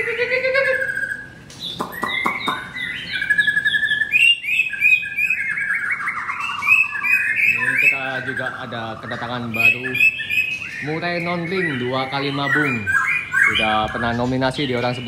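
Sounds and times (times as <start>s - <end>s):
bird singing chirps and trills: 0.0s - 15.0s.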